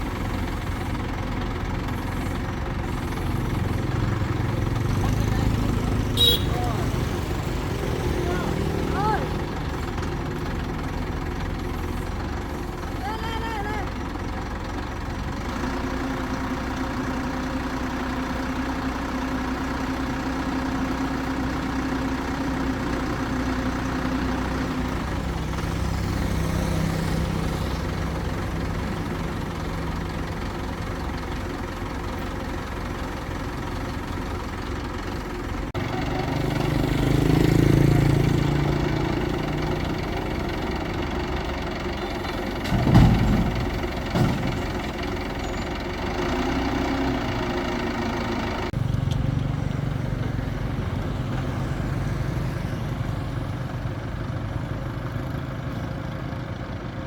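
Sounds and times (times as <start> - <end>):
crane engine running: 0.0 - 57.0.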